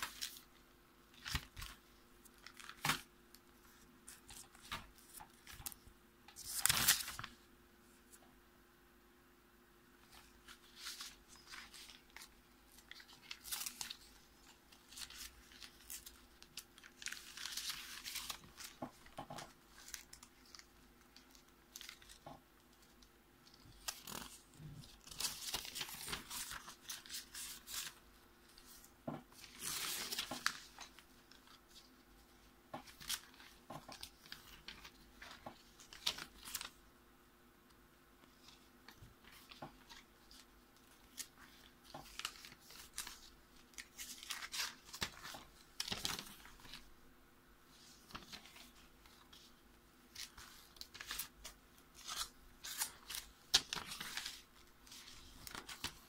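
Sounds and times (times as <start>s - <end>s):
paper rustling and crinkling: 0.0s - 7.5s, 10.0s - 36.8s, 38.2s - 47.0s, 47.7s - 56.0s.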